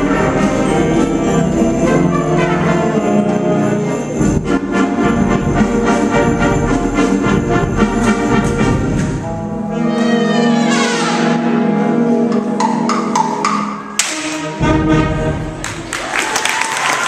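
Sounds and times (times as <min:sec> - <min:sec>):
school band playing brass chords: 0:00.0 - 0:16.0.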